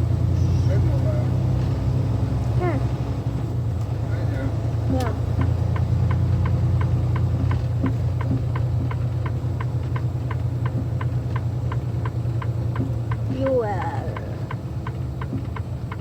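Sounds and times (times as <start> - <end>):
truck engine low rumble: 0.0 - 16.0
turn signal ticking: 0.0 - 16.0.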